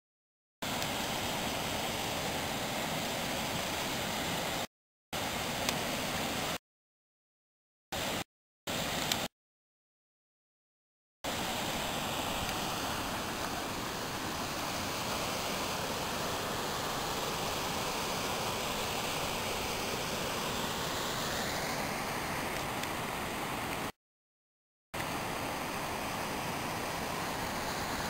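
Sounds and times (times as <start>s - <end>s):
river and waterfall rushing: 0.6s - 6.6s, 8.0s - 9.3s, 11.3s - 23.9s, 25.0s - 28.0s.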